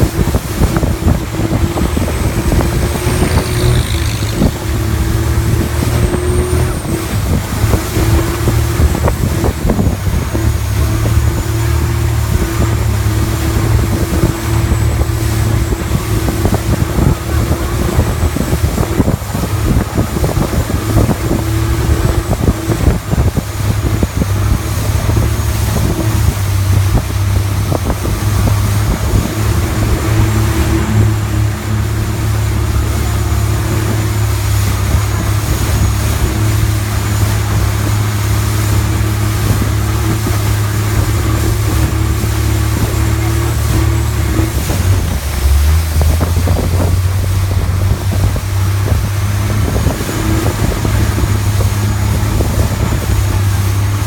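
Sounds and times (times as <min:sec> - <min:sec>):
boat engine droning: 0:00.0 - 0:54.0
wind on microphone: 0:00.0 - 0:54.0.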